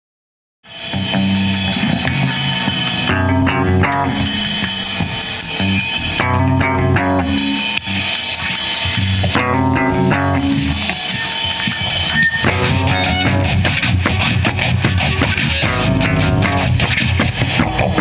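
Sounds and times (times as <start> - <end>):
rock band playing: 0.6 - 18.0.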